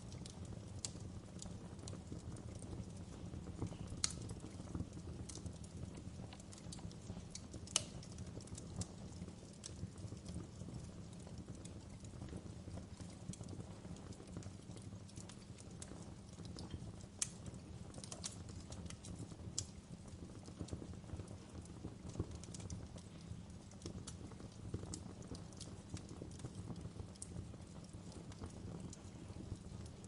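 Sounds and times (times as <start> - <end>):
fire popping and snapping: 0.0 - 30.0
low rumble of burning: 0.0 - 30.0
wood fire crackling: 0.0 - 30.0.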